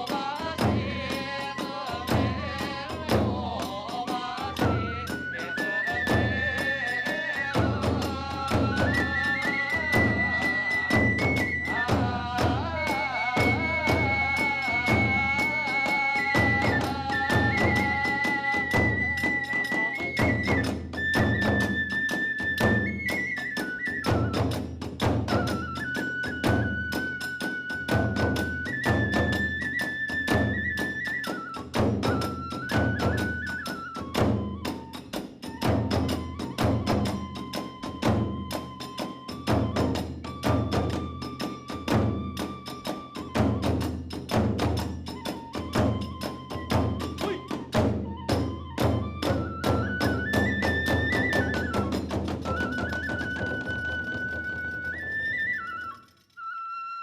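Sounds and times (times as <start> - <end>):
small hand cymbals: 0.0 - 47.8
taiko drums: 0.0 - 55.9
bamboo flute: 0.0 - 57.0.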